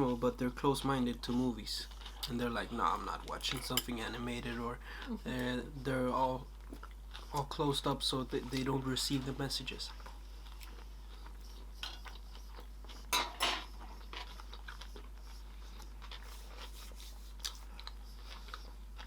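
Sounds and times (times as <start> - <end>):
soft chewing: 0.0 - 19.0.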